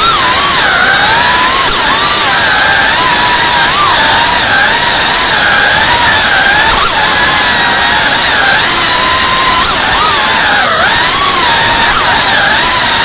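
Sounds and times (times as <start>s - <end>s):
small drone motors whining: 0.0s - 13.0s.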